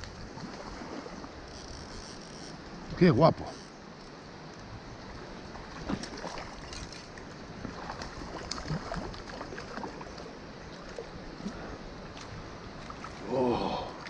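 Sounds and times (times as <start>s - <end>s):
rushing water: 0.0s - 2.0s, 2.7s - 14.0s.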